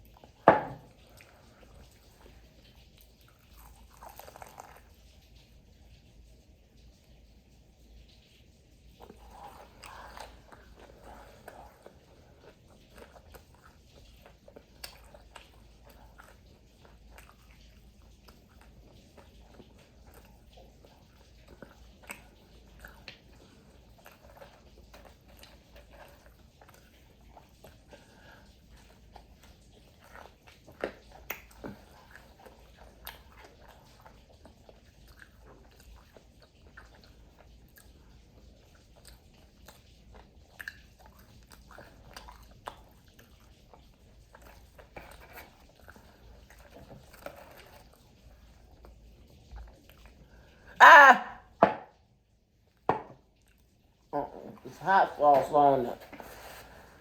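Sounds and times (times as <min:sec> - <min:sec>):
chewing fried food: 0:00.0 - 0:50.8, 0:51.9 - 0:57.0.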